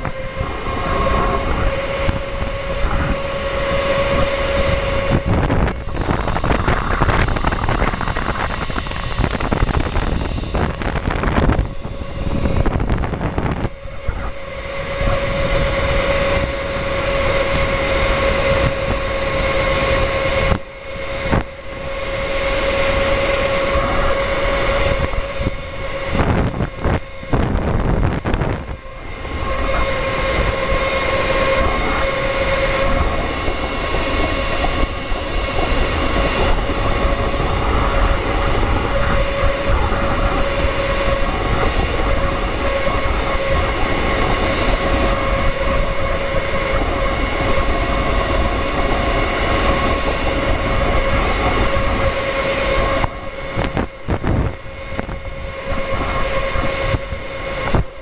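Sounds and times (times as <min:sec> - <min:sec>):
electric motor whine: 0:00.0 - 0:58.0
wind: 0:00.0 - 0:58.0.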